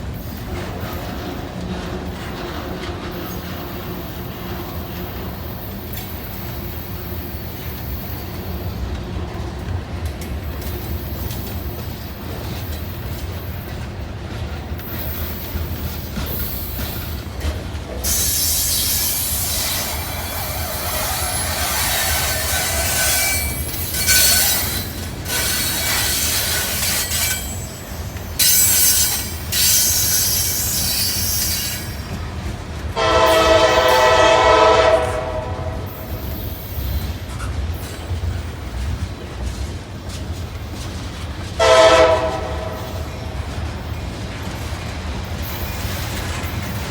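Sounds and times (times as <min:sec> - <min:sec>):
diesel locomotives droning: 0:00.0 - 0:39.4, 0:41.5 - 0:46.9
train wheels squealing on rails: 0:00.0 - 0:46.9.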